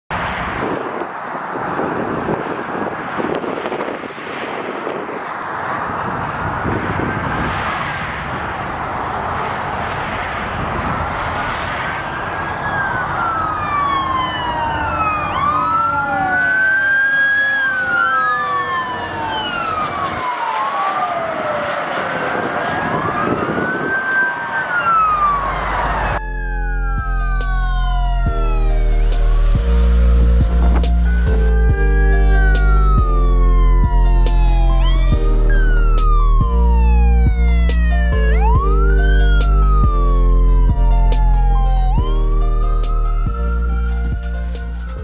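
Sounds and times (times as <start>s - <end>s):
highway traffic: 0.1s - 45.0s
wind: 0.1s - 45.0s
emergency sirens wailing: 0.2s - 45.0s.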